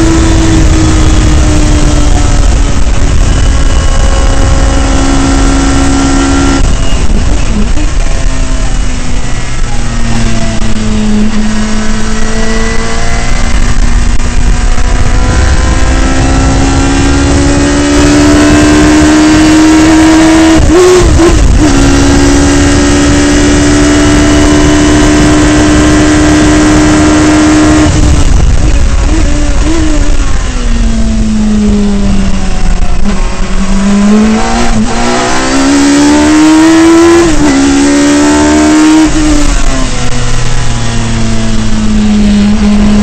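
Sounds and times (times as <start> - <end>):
race car engine revving: 0.0 - 43.0
wind rush on microphone: 0.0 - 43.0.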